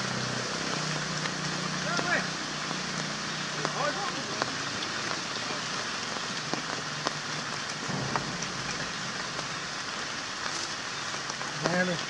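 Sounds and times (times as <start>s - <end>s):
raindrops ticking on surfaces: 0.0s - 12.0s
steady rain: 0.0s - 12.0s.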